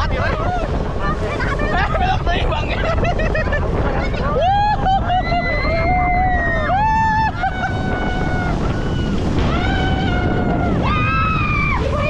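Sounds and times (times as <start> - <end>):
motorboat wind and water rush: 0.0 - 12.0.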